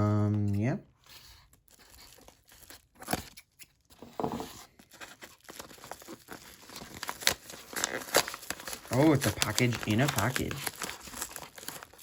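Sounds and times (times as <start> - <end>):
packaging crinkling and rustling: 1.0 - 12.0
packaging ripping: 1.1 - 3.8, 4.7 - 12.0.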